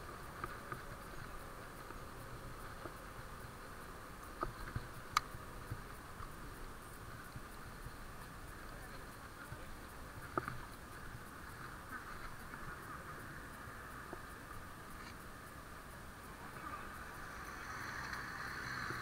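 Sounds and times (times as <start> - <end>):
muffled riding hiss: 0.0 - 19.0.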